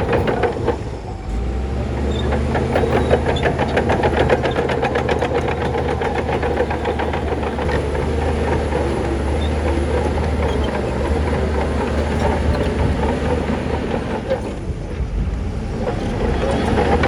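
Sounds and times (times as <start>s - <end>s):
light clatter: 0.0s - 0.9s, 2.0s - 14.7s, 15.8s - 17.0s
diesel engine droning: 0.0s - 17.0s.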